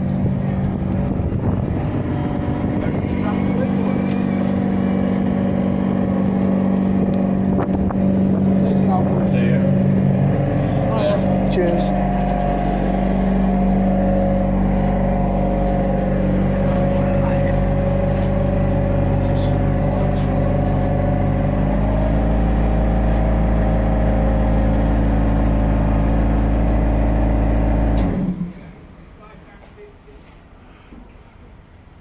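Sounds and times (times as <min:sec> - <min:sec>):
tram mechanical hum and rumble: 0:00.0 - 0:32.0.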